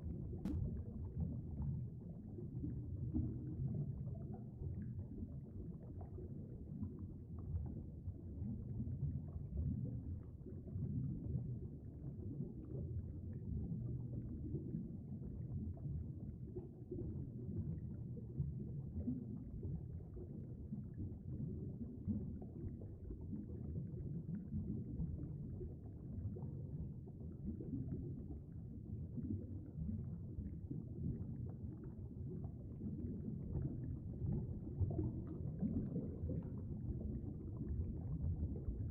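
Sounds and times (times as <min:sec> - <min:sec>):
muffled underwater stream rumble: 0:00.0 - 0:38.9.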